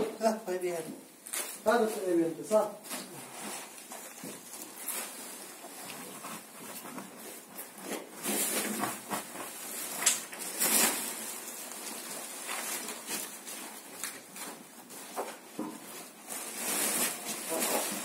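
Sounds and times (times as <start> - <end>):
flowers rustling: 0.0 - 18.0.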